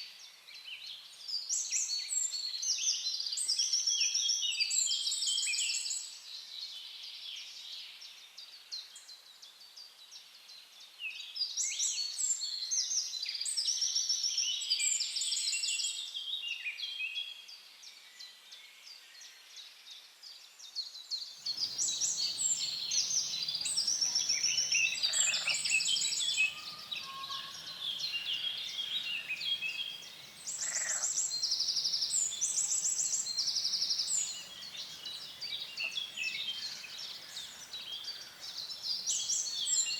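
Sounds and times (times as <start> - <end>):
low steady hiss: 0.0 - 39.9
songbirds singing and chirping: 0.0 - 39.9.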